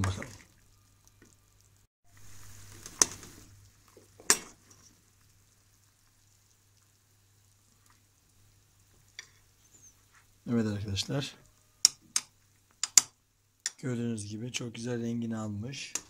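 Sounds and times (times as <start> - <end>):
syrup sizzling in a pot: 0.0 - 14.2.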